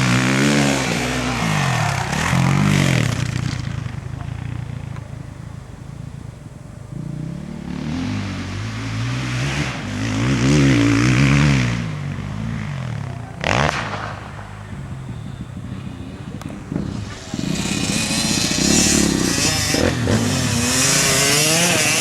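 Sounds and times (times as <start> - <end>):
motocross engines revving: 0.0 - 22.0
motorcycle passing by: 0.0 - 22.0.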